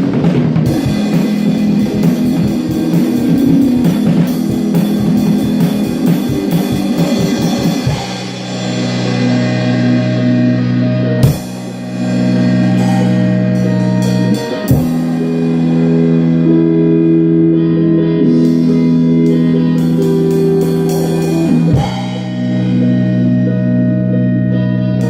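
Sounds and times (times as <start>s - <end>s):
drum kit: 0.0s - 24.3s
electric guitar chords: 0.0s - 25.0s.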